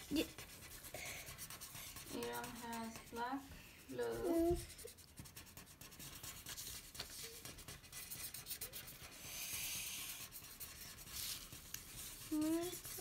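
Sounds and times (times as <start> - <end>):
felt-tip markers scribbling on paper: 0.0 - 13.0.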